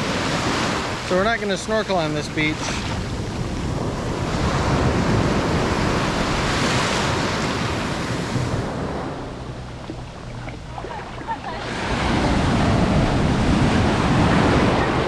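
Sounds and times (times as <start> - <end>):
ocean surf breaking on beach: 0.0 - 15.0
wind buffeting microphone: 2.1 - 15.0.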